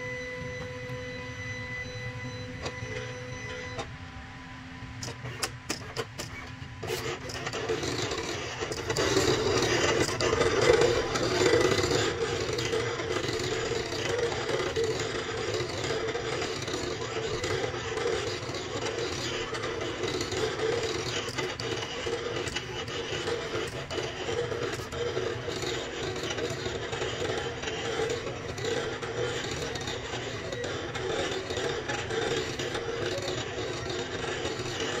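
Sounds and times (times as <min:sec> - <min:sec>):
cutting machine motors whirring: 0:00.0 - 0:35.0.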